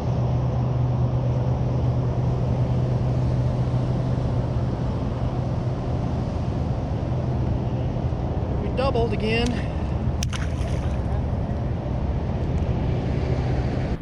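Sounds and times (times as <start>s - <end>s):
motorboat engine humming: 0.0s - 14.0s
water: 0.2s - 13.1s.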